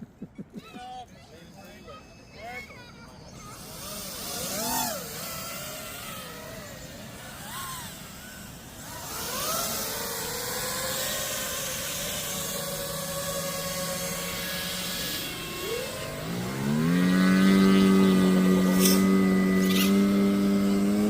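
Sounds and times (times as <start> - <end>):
model airplane propeller whine: 1.3 - 21.0.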